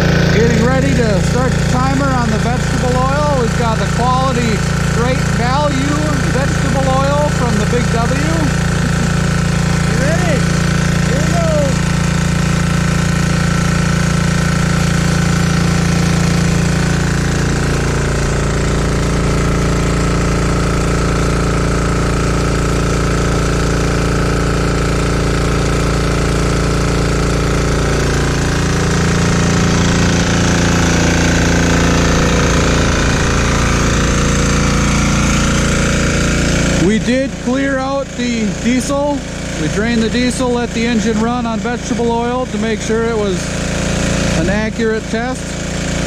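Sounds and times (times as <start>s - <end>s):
diesel generator engine running: 0.0s - 46.0s.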